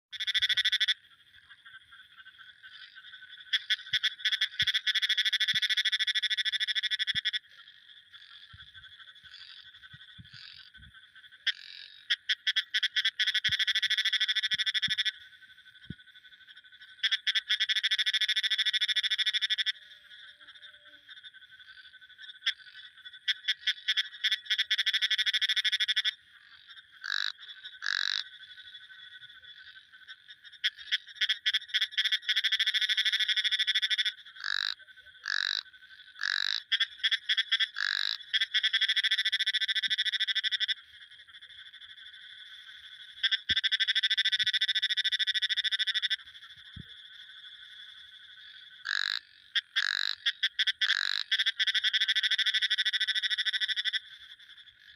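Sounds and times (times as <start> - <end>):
faint frog trill: 0.1 - 54.9
frogs trilling: 0.1 - 54.9
short single frog notes: 2.7 - 40.8, 41.4 - 54.1.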